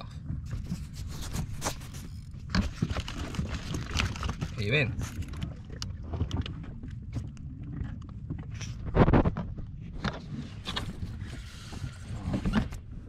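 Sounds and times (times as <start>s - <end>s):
camera handling rumble: 0.4s - 12.9s.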